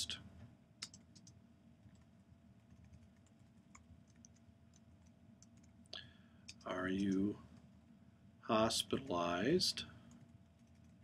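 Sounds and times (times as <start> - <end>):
faint keyboard typing: 0.1 - 7.9, 9.8 - 11.0.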